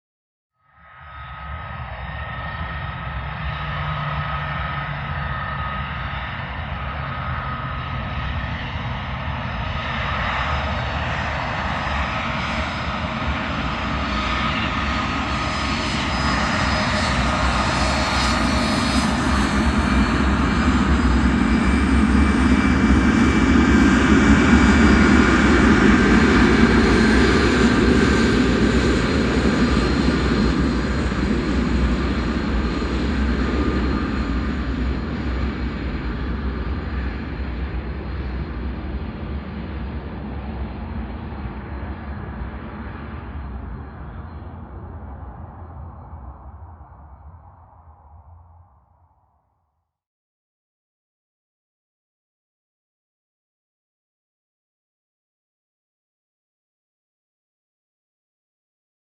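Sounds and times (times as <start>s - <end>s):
aeroplane engine drone: 0.6s - 49.4s.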